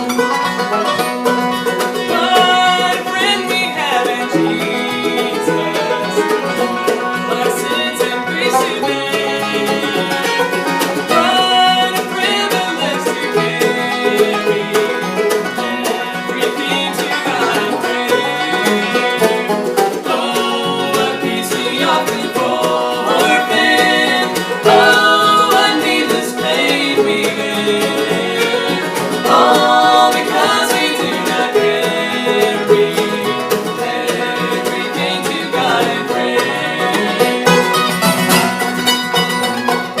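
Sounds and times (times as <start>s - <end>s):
bluegrass banjo and guitar: 0.0s - 40.0s
person singing: 1.9s - 38.0s.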